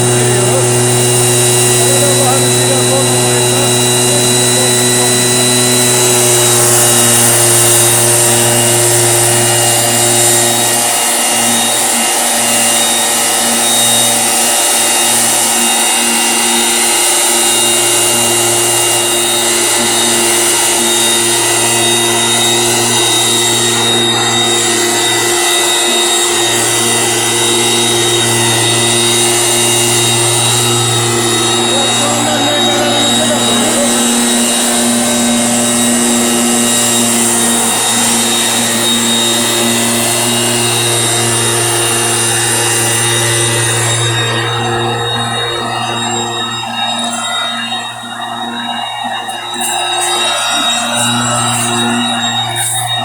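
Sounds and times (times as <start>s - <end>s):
small petrol engine running: 0.0s - 53.0s.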